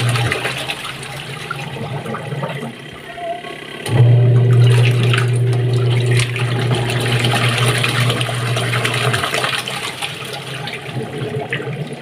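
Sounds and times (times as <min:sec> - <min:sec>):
washing machine motor humming: 0:00.0 - 0:12.0
water churning and swishing: 0:00.0 - 0:12.0.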